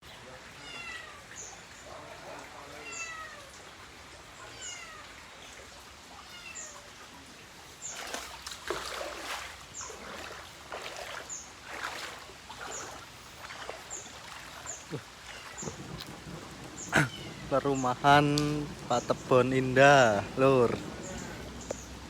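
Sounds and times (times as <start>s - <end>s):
water splashing and sloshing: 0.1s - 22.0s.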